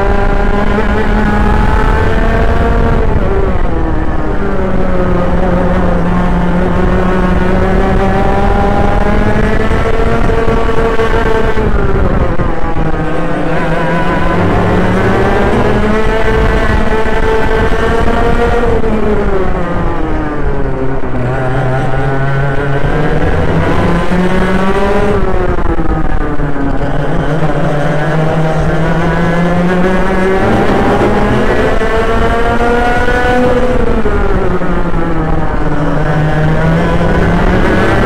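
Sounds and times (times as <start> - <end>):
kart engines racing: 0.0 - 38.0.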